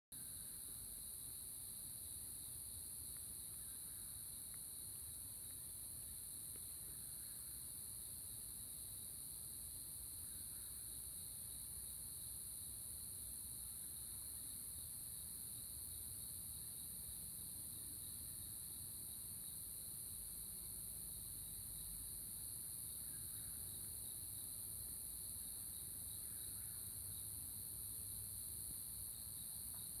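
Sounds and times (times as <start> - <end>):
crickets chirping: 0.2 - 30.0.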